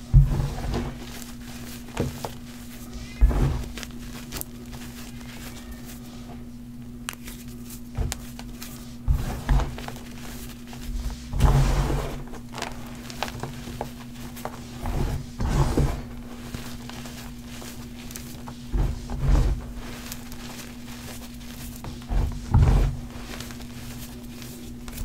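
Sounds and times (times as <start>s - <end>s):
hands squeezing crunchy powder: 0.4s - 25.0s.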